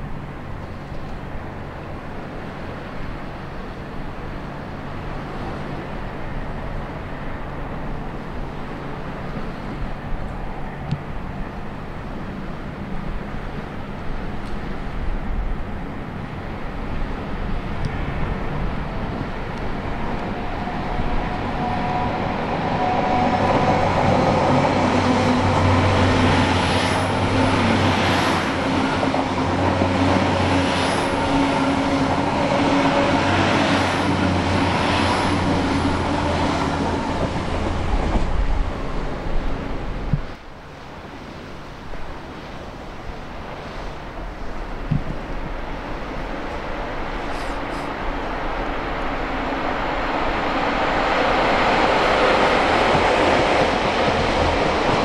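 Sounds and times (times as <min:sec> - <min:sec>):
train diesel engine drone: 0:00.0 - 0:55.0
wheels rumbling on rail: 0:00.0 - 0:55.0.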